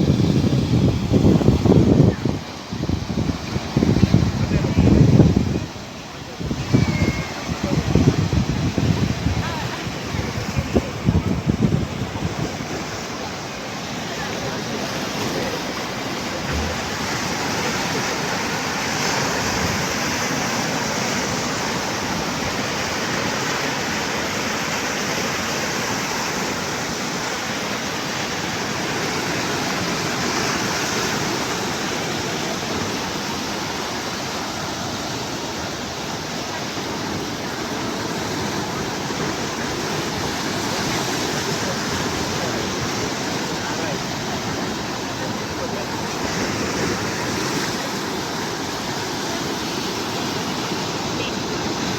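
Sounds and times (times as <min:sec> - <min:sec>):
waves breaking: 0:00.0 - 0:51.9.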